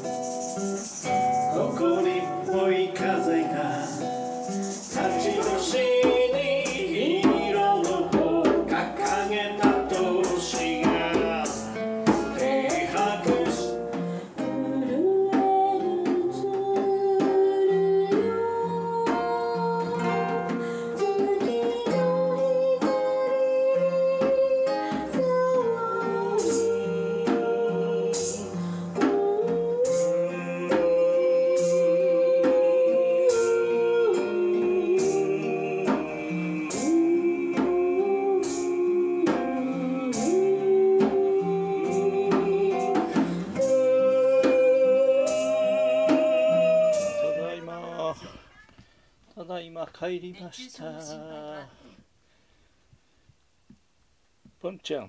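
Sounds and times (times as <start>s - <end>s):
light hand percussion: 0.0s - 47.4s
acoustic guitar: 0.0s - 55.0s
man singing: 1.1s - 19.3s, 20.0s - 48.4s, 49.4s - 51.9s.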